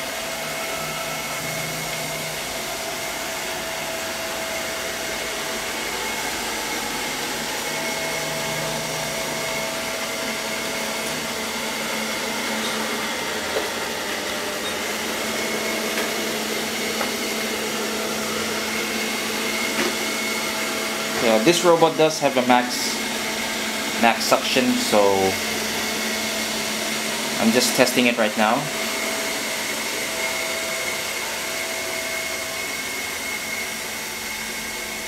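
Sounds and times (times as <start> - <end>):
high whine: 0.0 - 32.6
robot vacuum whirring: 0.0 - 35.0.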